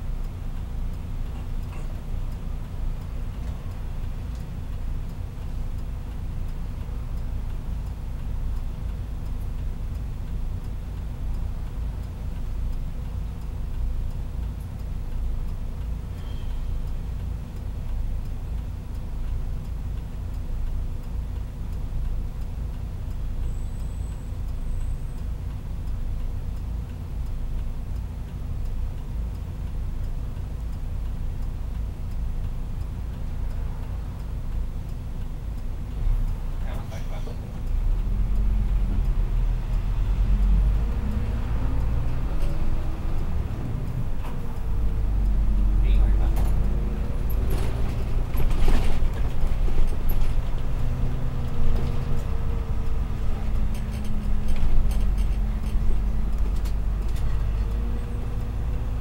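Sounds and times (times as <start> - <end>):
bus diesel engine idling: 0.0 - 59.0.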